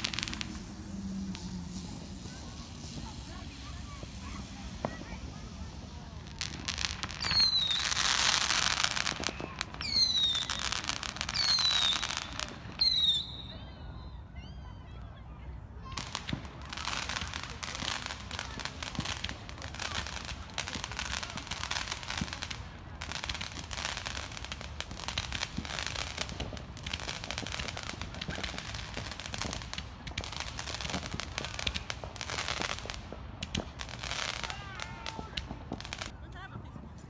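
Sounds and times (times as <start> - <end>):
fireworks crackling: 0.0 - 14.1, 15.4 - 37.0.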